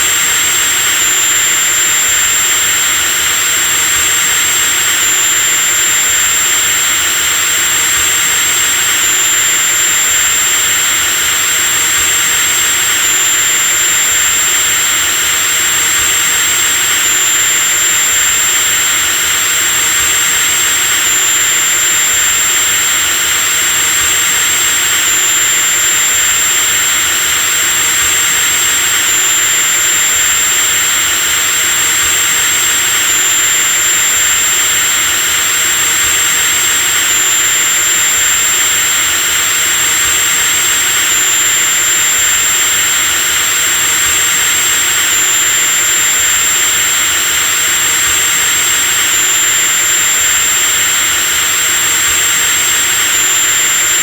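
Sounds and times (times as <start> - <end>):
electric drill whirring: 0.0 - 54.0.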